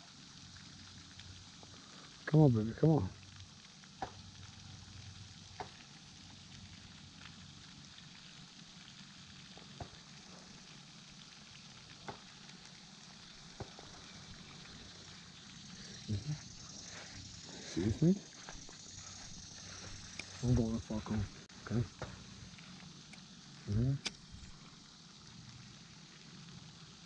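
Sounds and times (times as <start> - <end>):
faint outdoor background hiss: 0.0 - 27.0.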